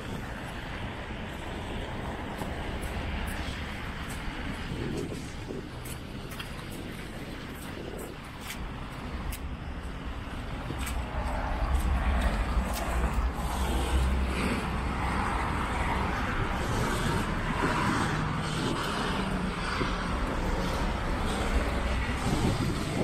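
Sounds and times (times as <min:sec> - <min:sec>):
cars passing on wet cobbles: 0:00.0 - 0:23.0.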